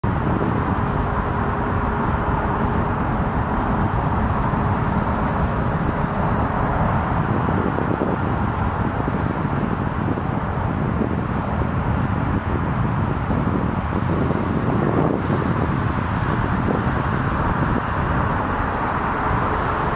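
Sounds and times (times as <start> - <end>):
jet airliner engine roar: 0.0 - 19.9
outdoor rumble: 0.0 - 19.9
thin steady whine: 0.0 - 19.9.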